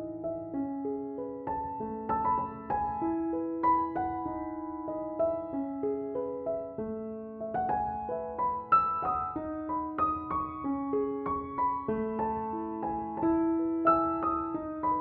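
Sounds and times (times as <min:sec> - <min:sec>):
piano-style keyboard melody: 0:00.0 - 0:15.0.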